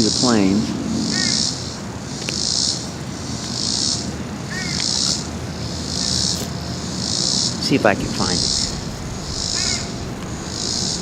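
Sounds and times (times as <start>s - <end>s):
distant jet aircraft rumble: 0.0s - 11.0s
insects buzzing: 0.0s - 11.0s.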